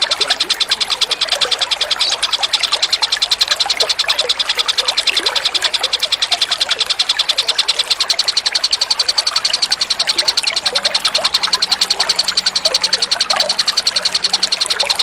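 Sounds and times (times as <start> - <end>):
faint gurgling sounds: 0.0 - 15.0
songbird pulsing trill: 0.0 - 15.0.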